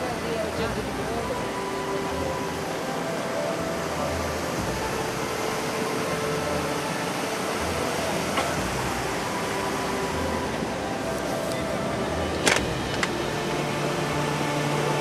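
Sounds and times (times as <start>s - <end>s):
fast-flowing muddy water rushing: 0.0s - 15.0s.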